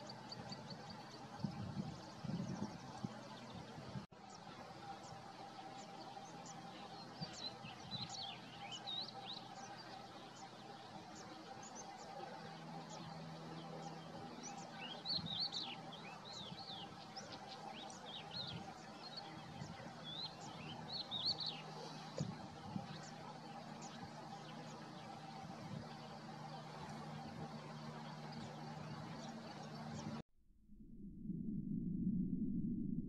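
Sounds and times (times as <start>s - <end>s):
small birds chirping: 0.0s - 30.2s
faint steady hum: 0.0s - 33.0s.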